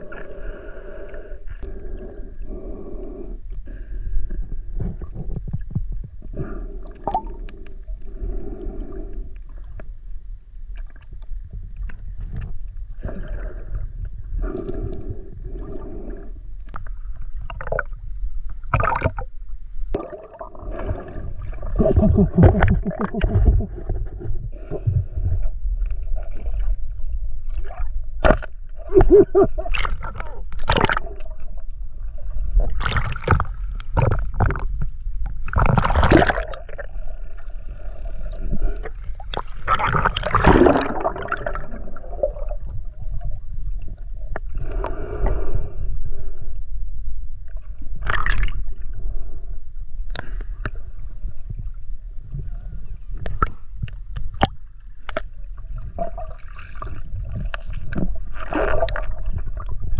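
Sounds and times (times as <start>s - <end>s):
steady low rumble: 0.0s - 59.9s
water sloshing and gurgling: 0.0s - 59.9s.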